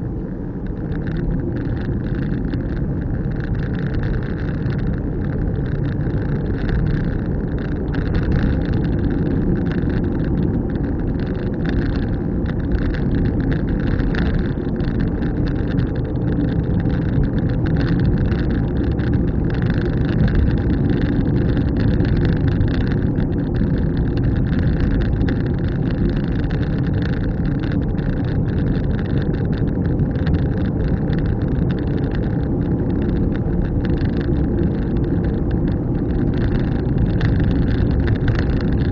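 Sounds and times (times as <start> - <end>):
car engine rumble: 0.0 - 38.9
tyre road noise: 0.0 - 38.9.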